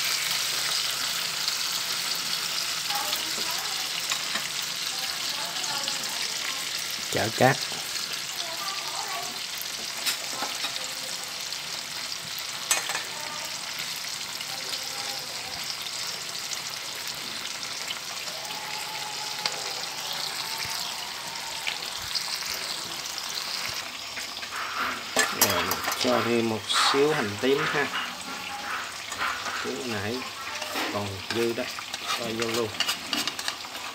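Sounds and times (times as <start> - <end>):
sauce sizzling in a frying pan: 0.0 - 33.9.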